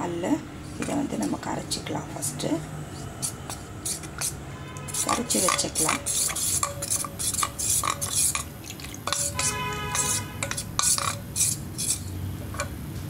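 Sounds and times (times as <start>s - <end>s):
metal spoon stirring in bowl: 0.8s - 12.8s.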